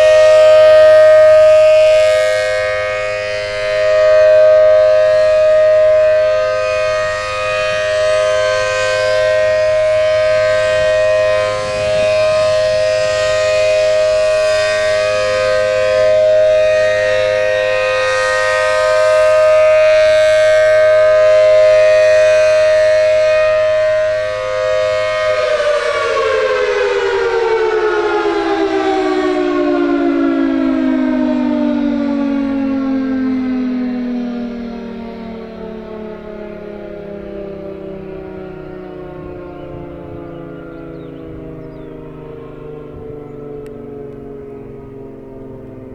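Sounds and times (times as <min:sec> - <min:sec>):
two-tone siren winding down: 0:00.0 - 0:45.9.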